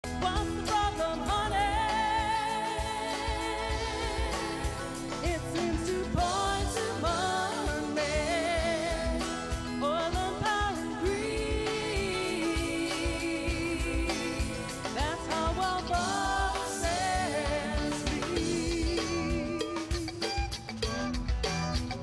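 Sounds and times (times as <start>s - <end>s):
pop song with solo vocal: 0.0s - 20.6s.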